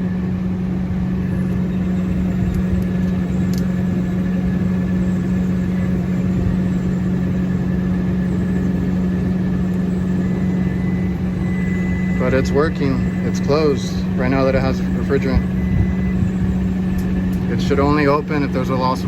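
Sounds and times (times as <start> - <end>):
air conditioning unit humming: 0.0 - 19.0.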